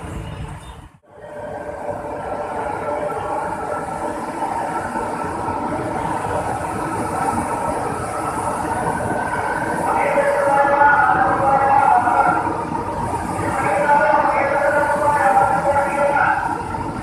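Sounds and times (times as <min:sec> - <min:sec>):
light rail train running past: 0:00.0 - 0:17.0.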